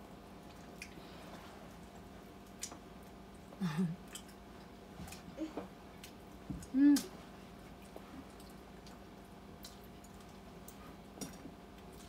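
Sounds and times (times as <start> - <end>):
low steady hum: 0.0 - 12.0
faint wet chewing sounds: 0.1 - 12.0.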